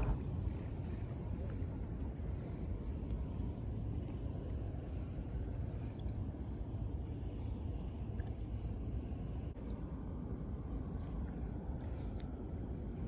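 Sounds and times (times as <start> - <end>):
insects chirping: 0.0 - 13.0
low rumble: 0.0 - 13.0.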